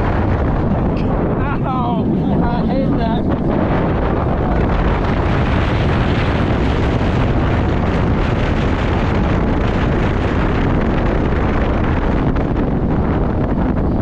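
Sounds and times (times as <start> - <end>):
roller coaster rumbling on track: 0.0 - 14.0
wind rushing over microphone: 0.0 - 14.0.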